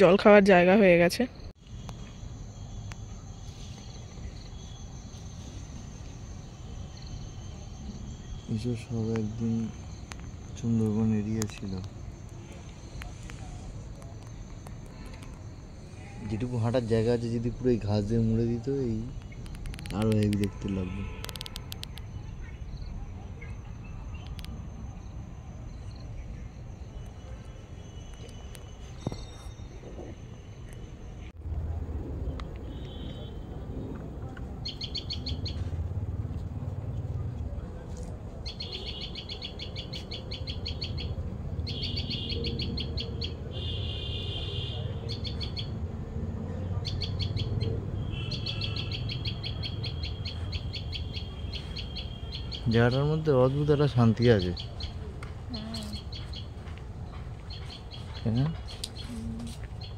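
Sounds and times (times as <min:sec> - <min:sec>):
insects chirring: 0:00.0 - 0:33.9, 0:34.6 - 0:37.0, 0:38.2 - 0:59.9
crickets droning: 0:00.0 - 0:59.9.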